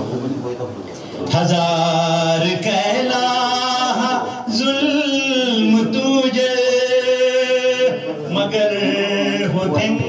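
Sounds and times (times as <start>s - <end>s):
man singing into microphone: 1.3s - 10.0s.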